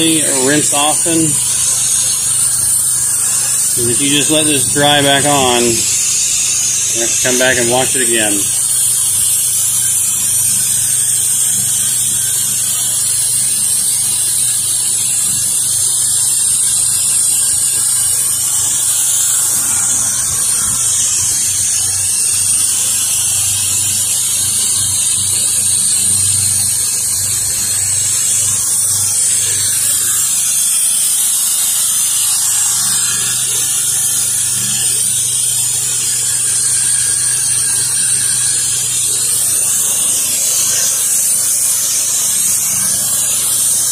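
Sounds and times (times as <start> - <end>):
pressure washer spraying concrete: 0.0 - 43.9.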